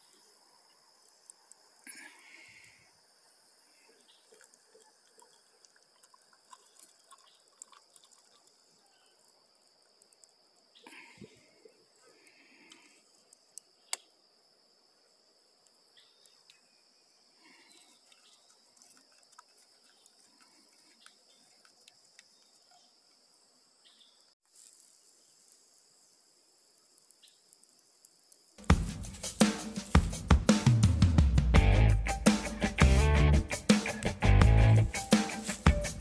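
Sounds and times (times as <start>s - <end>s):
insects chirring drone: 0.0s - 30.9s, 32.0s - 36.0s.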